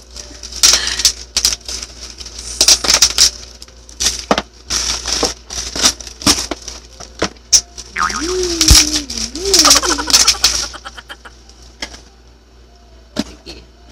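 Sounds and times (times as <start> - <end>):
bubble wrap crackling: 0.0 - 12.1.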